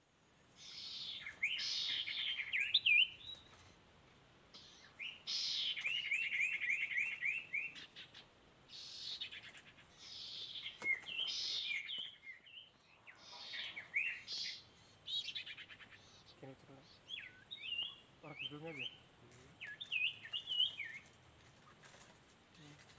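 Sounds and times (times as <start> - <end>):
bird song: 0.0 - 3.8, 4.5 - 22.9.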